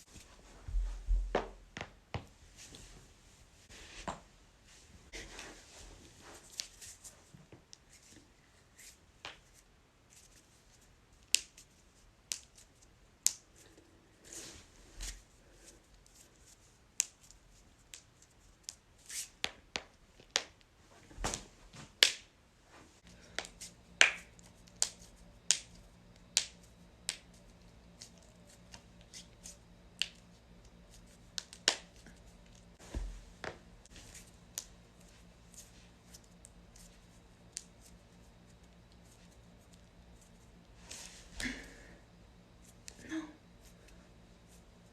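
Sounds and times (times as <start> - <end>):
faint low hum: 0.0 - 19.1, 19.9 - 44.9.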